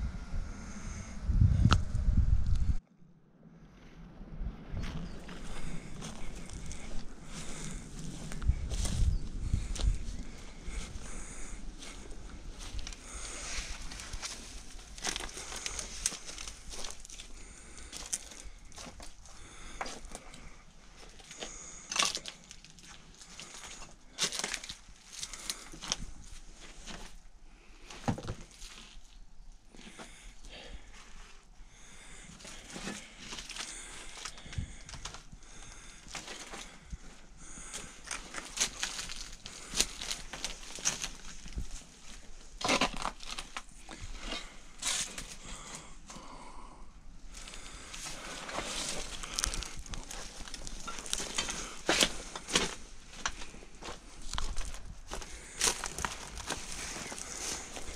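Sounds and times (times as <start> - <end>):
footsteps crunching on rubble: 4.8 - 20.4, 21.0 - 27.2, 27.8 - 29.2, 32.3 - 46.2, 47.3 - 57.9.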